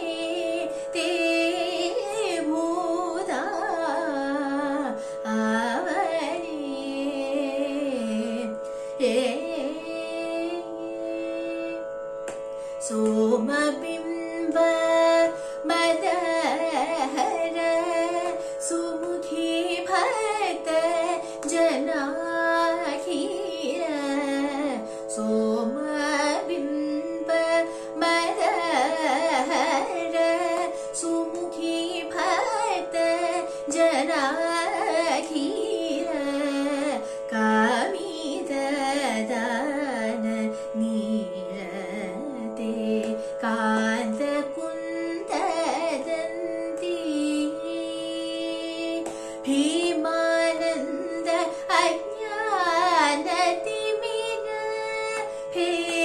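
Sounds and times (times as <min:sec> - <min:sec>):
steady drone: 0:00.0 - 0:56.0
woman singing ornamented melody: 0:00.0 - 0:56.0.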